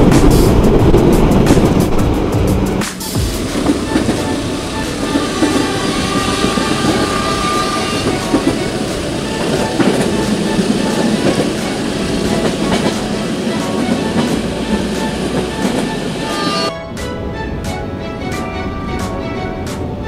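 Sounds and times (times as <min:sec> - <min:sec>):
train wheels on rails: 0:00.0 - 0:16.7.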